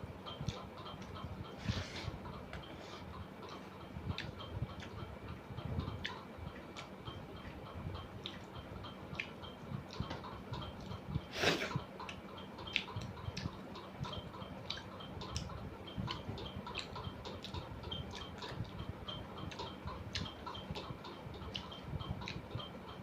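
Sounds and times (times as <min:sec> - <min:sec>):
person chewing and lip-smacking: 0:00.3 - 0:23.0.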